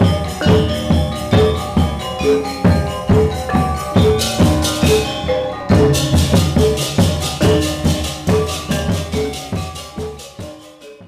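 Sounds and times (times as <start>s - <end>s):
drum strokes: 0.0s - 10.7s
gamelan metallophones and gongs: 0.0s - 11.0s.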